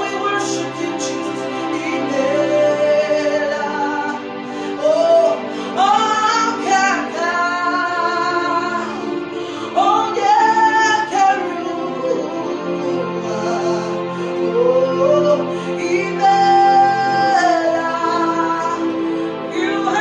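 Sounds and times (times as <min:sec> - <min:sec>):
sustained instrumental backing: 0:00.0 - 0:20.0
woman singing: 0:00.0 - 0:20.0.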